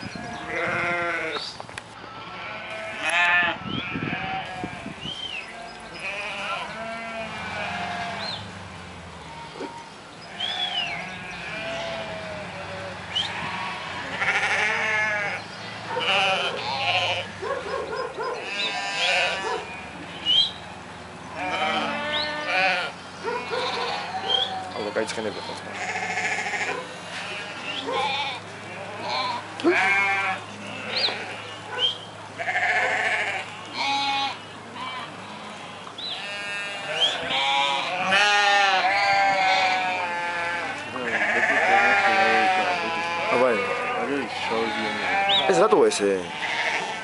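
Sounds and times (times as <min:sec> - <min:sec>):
flock of sheep bleating: 0:00.0 - 0:08.4, 0:09.2 - 0:17.4, 0:18.3 - 0:20.5, 0:21.3 - 0:31.7, 0:32.3 - 0:47.0.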